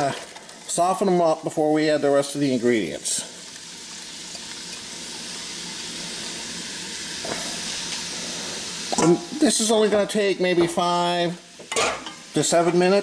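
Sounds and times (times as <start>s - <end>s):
vegetables sizzling in butter: 0.0s - 13.0s.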